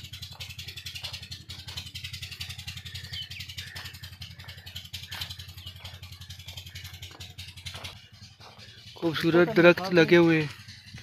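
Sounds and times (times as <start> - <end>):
engine chugging steadily: 0.0 - 11.0.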